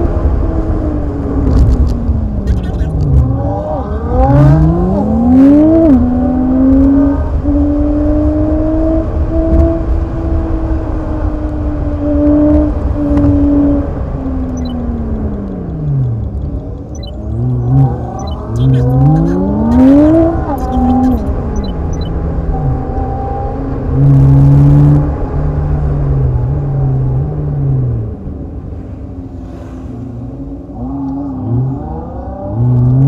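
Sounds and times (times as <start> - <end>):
car engine revving: 0.0 - 33.0
road rumble: 0.0 - 33.0.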